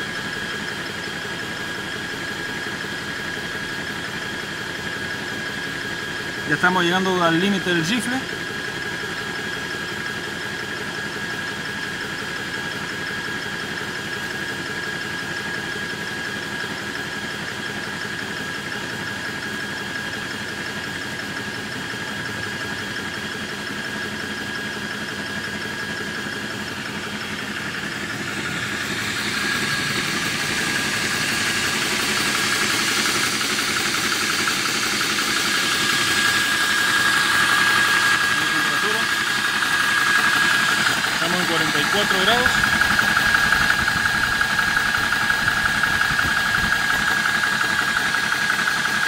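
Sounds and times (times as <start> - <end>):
air compressor running: 0.0 - 49.0.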